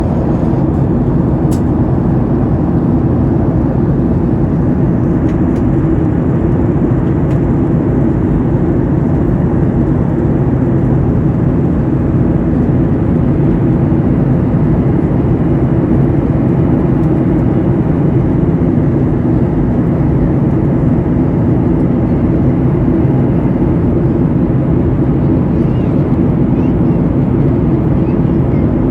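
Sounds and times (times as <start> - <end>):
airliner cabin engine drone: 0.0 - 28.9.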